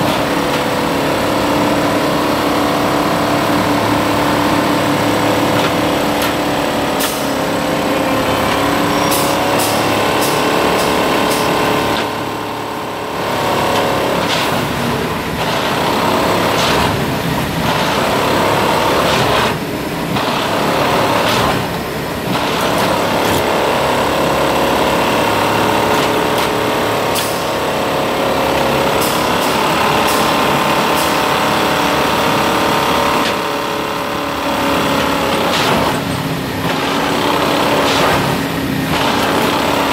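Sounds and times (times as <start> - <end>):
diesel engine running: 0.0 - 39.9
sharp metallic clicks and clanks: 4.6 - 7.6, 8.2 - 12.7, 13.3 - 39.9.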